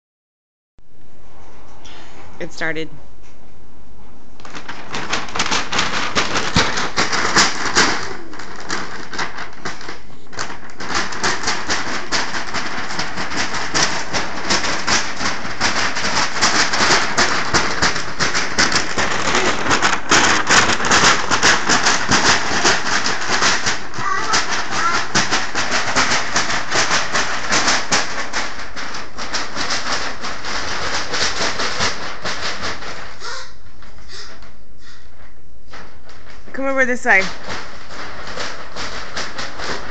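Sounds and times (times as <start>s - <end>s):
paper bag crinkling: 4.4s - 34.4s, 35.7s - 39.9s.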